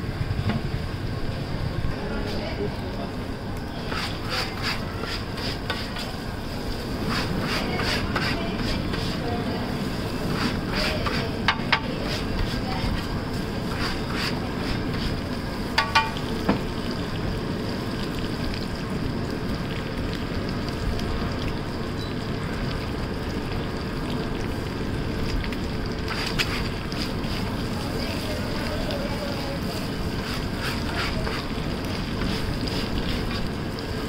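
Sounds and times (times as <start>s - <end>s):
food sizzling on griddle: 1.3s - 34.0s.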